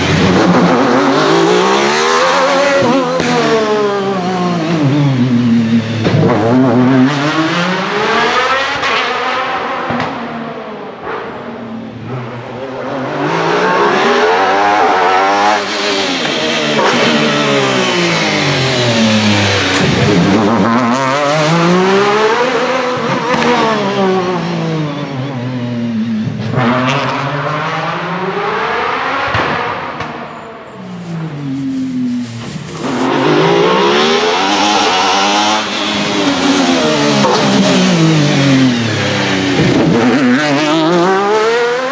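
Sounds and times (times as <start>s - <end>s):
racing car engine accelerating: 0.0s - 41.9s.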